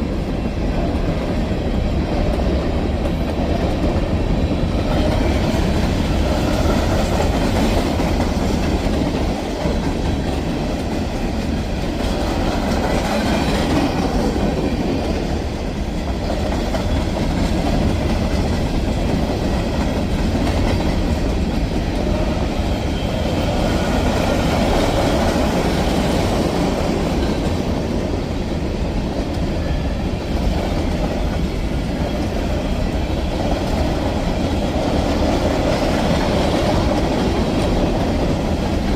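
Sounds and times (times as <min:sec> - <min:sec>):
steel wheels rolling on rail: 0:00.0 - 0:38.9.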